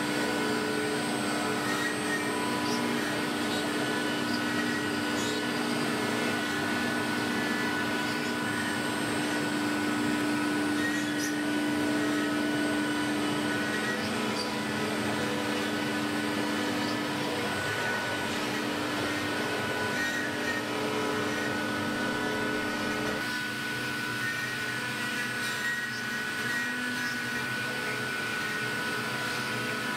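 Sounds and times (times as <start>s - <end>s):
router spindle humming: 0.0s - 29.9s.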